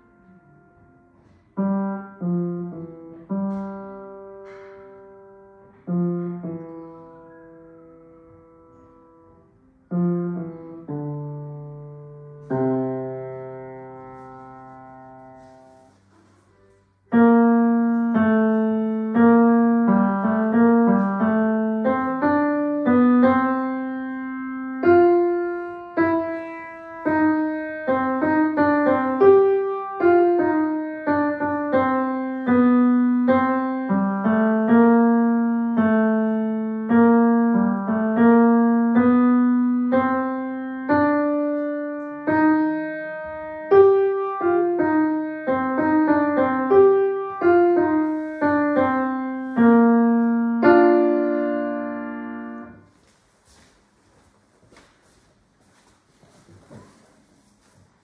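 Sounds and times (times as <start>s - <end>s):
grand piano playing: 0.0s - 53.0s.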